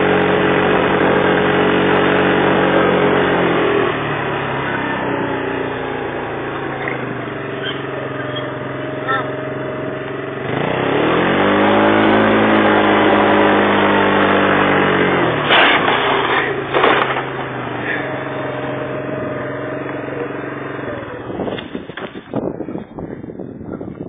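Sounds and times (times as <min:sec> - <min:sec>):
small engine revving high: 0:00.0 - 0:22.7
loud rough noise bursts: 0:00.0 - 0:23.2
rumbling and buffeting: 0:00.0 - 0:24.0.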